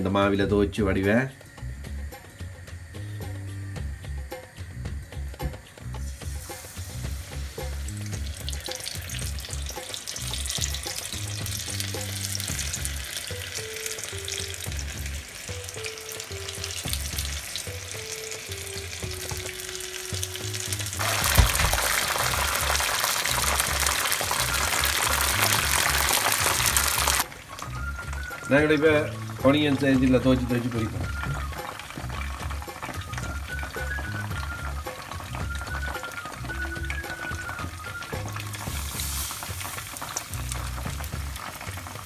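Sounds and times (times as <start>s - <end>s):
background music: 0.0s - 42.0s
chicken sizzling in hot oil: 1.5s - 42.0s.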